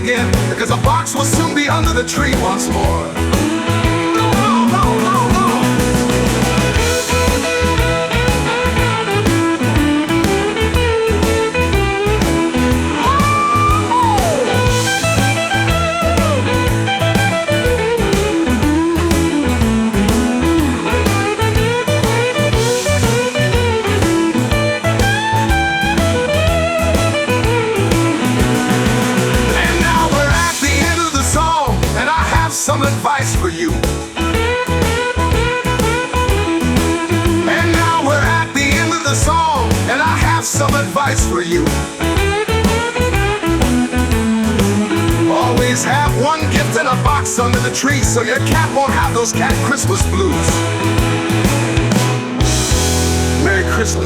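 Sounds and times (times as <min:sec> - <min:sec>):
bass and drum beat: 0:00.0 - 0:54.0
lead guitar bending lines: 0:00.0 - 0:54.0.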